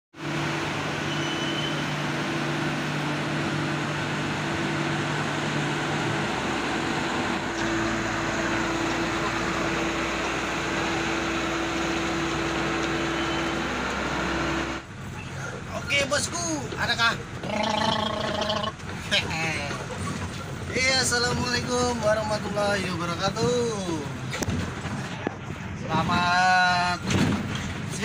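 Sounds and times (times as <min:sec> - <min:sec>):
truck diesel engine running: 0:00.2 - 0:25.8.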